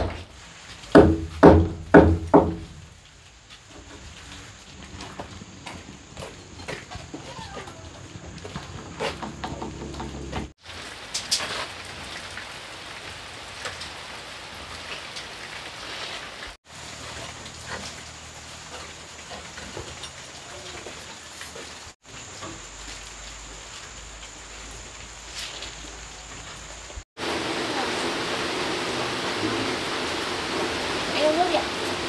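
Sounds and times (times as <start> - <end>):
rain hissing: 0.0 - 1.0, 1.8 - 6.5, 10.5 - 32.0.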